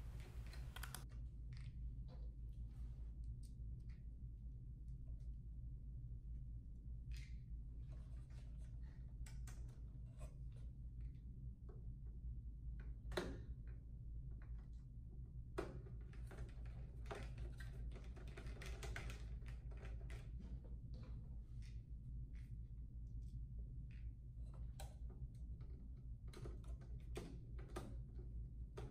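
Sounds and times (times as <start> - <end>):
steady low hum: 0.0 - 18.2, 18.9 - 28.9.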